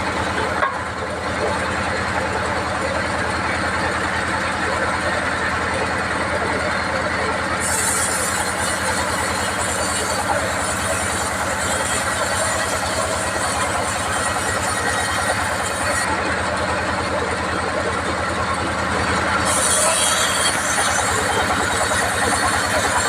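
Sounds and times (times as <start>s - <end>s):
machinery engine hum: 0.0s - 23.0s.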